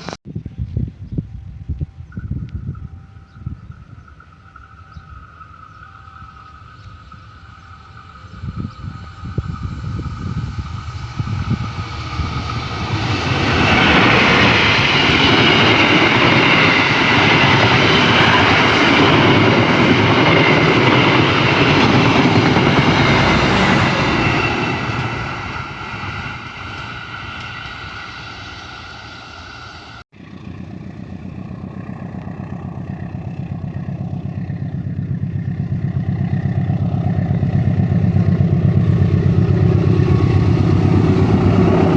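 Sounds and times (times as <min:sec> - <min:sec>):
diesel locomotive passing: 0:00.0 - 0:41.9.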